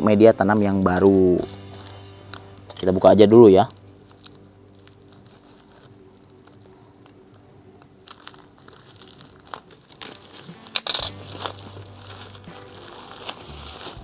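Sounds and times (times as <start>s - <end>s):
plastic wrapping crinkling: 0.2s - 14.0s.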